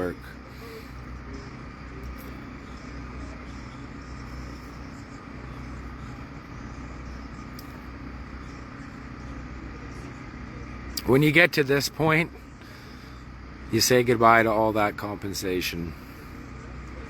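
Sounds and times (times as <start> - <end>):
faint high whine: 0.0 - 17.0
low background hum: 0.0 - 17.0.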